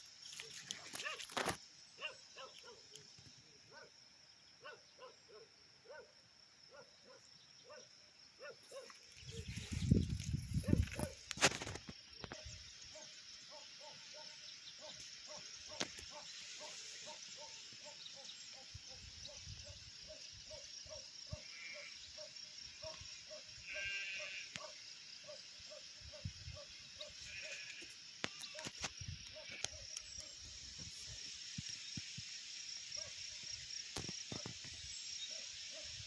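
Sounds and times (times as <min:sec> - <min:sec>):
faint birdsong: 0:00.0 - 0:11.4, 0:12.1 - 0:36.0.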